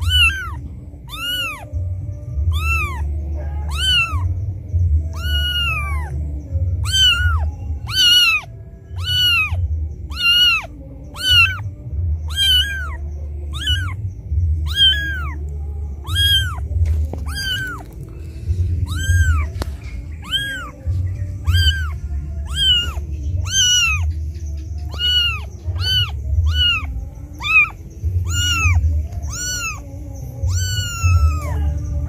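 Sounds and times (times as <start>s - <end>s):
kitten meowing: 0.0s - 1.8s, 2.4s - 4.4s, 5.0s - 6.2s, 6.8s - 11.6s, 12.3s - 14.0s, 14.6s - 18.0s, 18.7s - 24.2s, 24.8s - 31.8s
low rumble: 0.0s - 32.0s.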